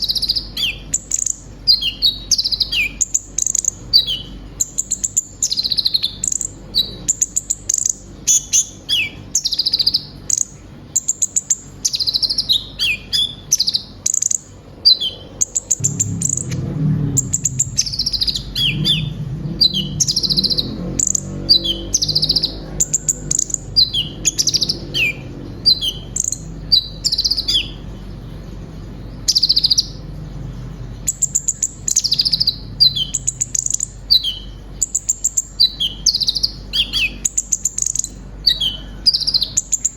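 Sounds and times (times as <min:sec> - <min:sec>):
low background rumble: 0:00.0 - 0:39.9
sunbird singing: 0:00.0 - 0:39.9.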